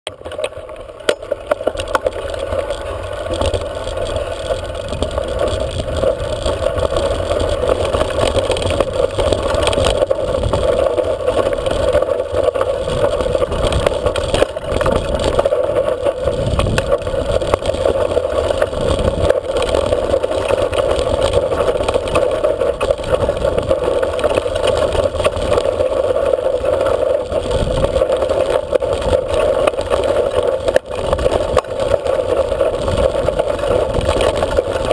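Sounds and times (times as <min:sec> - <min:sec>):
bike rattling: 0:00.1 - 0:34.9
wind rumble on microphone: 0:01.9 - 0:34.9.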